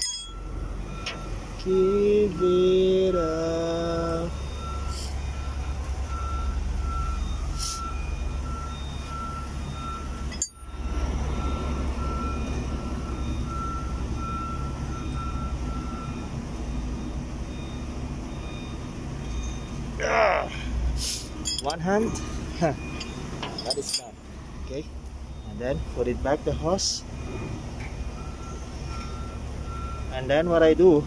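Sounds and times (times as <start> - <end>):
reversing alarm beeping: 0.0 - 20.6, 21.3 - 31.0
heavy machine engine rumbling: 0.0 - 31.0.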